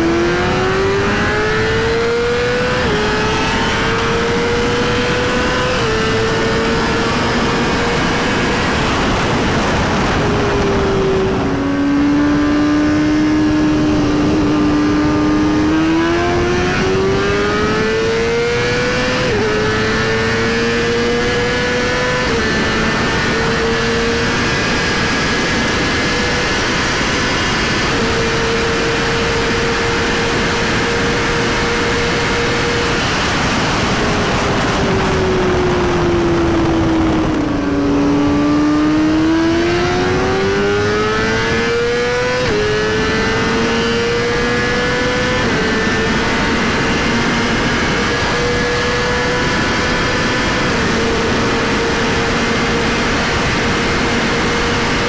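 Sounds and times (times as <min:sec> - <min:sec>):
motorcycle engine high revving: 0:00.0 - 0:55.0.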